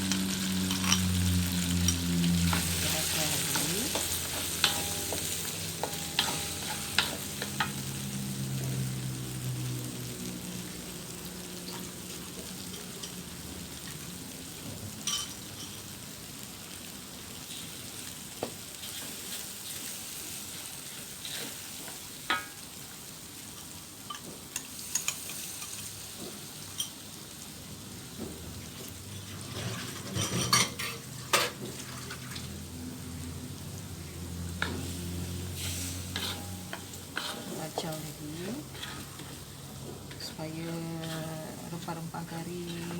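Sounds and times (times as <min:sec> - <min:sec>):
curry paste sizzling in oil: 0:00.0 - 0:42.9.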